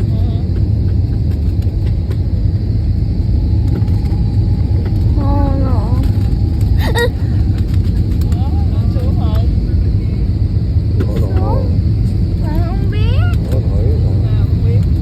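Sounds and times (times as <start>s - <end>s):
vehicle rumble from inside: 0.0s - 15.0s.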